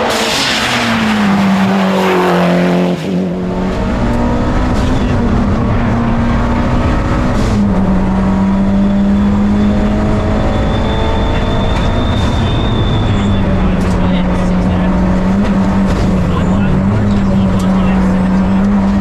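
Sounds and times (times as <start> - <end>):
car engine at high revs: 0.0 - 19.0
road and tyre noise: 0.0 - 19.0.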